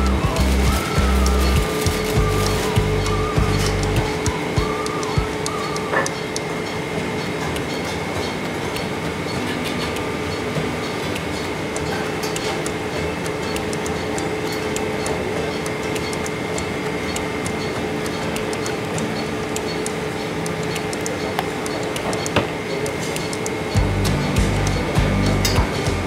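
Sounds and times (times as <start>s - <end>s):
kitchen machinery humming: 0.0s - 26.0s.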